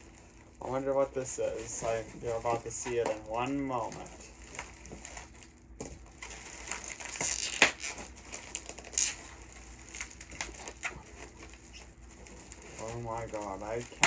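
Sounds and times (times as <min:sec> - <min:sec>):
bubble wrap crackling: 0:00.0 - 0:14.0.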